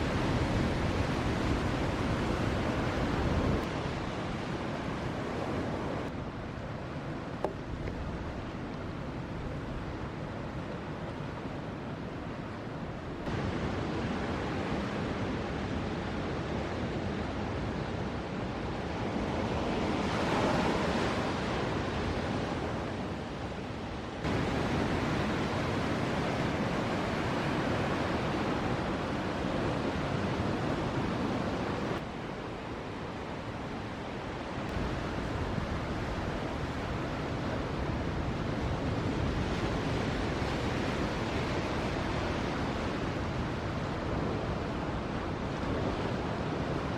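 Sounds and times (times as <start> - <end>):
ocean waves breaking: 0.0 - 46.9.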